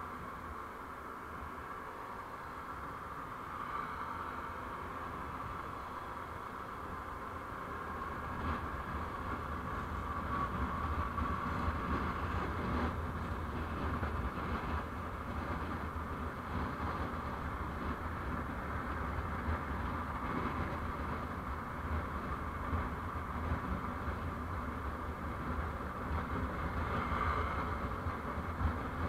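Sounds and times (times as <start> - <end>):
vehicle road and engine rumble: 0.0 - 29.0.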